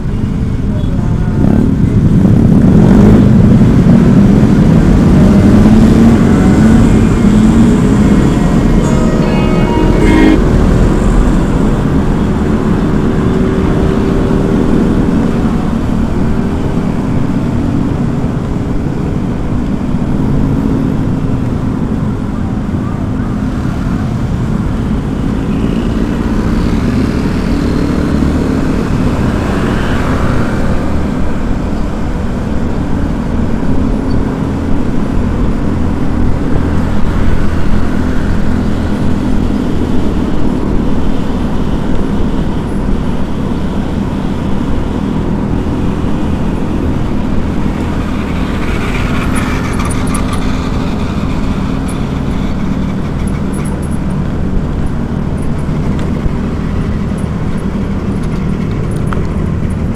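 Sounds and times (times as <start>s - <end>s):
low rumble of tyres: 0.0s - 59.9s
other traffic: 0.0s - 59.9s
vehicle engine hum: 0.0s - 59.9s.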